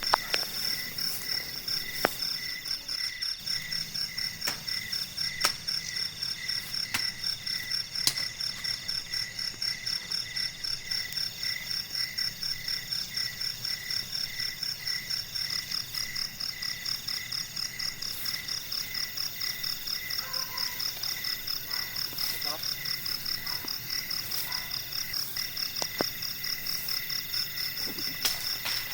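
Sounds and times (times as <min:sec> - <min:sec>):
crickets and insects trilling: 0:00.0 - 0:28.9.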